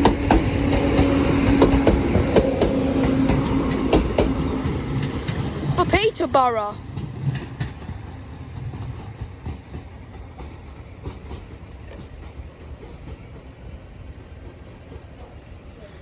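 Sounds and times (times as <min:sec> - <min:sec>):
train rumble: 0:00.0 - 0:16.0
train wheels clicking on rails: 0:00.0 - 0:16.0.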